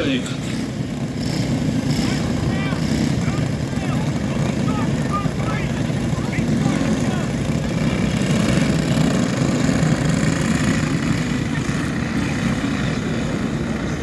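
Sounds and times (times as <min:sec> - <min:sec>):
motorcycle engines running together: 0:00.0 - 0:14.0.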